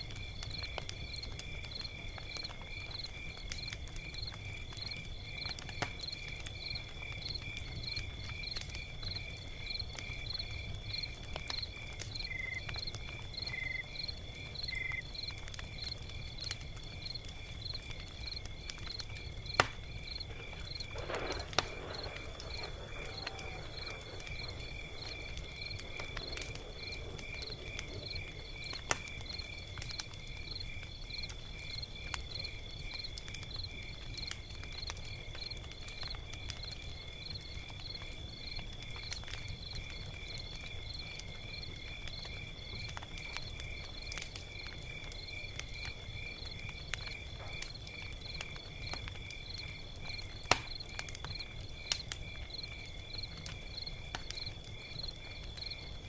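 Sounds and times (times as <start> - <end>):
log fire crackling and popping: 0.0 - 56.0
crickets chirping: 0.2 - 56.0.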